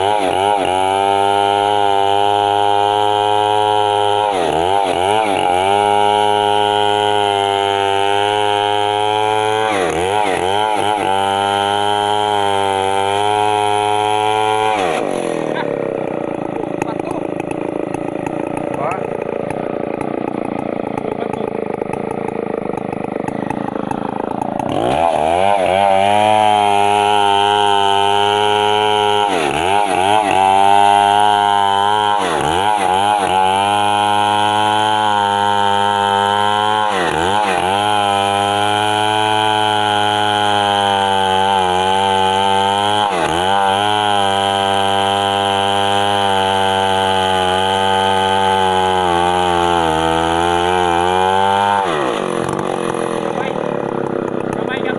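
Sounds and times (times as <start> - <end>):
chainsaw revving and cutting wood: 0.0 - 54.9.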